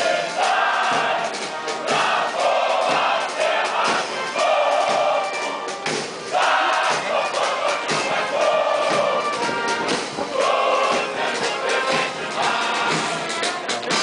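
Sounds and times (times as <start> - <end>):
group of voices singing: 0.0 - 14.0
music: 0.0 - 14.0.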